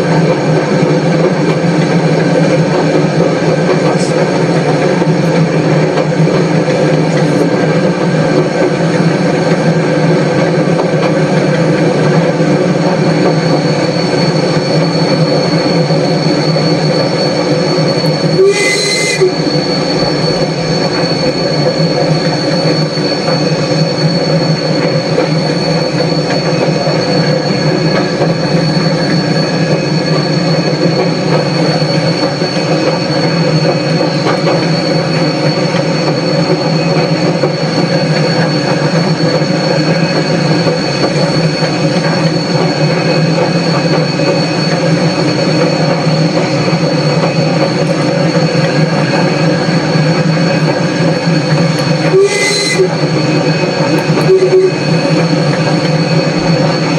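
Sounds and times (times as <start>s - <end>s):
high wheel squeal: 0.0s - 56.9s
train rumble: 0.0s - 56.9s.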